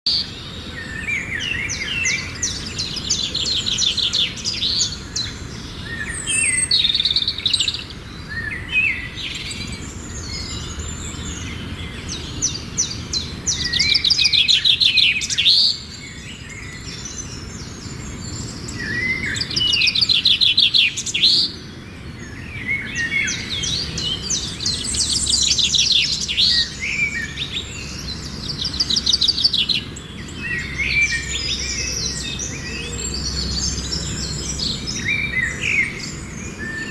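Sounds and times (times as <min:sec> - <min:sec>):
songbirds trilling and chirping: 0:00.0 - 0:36.9.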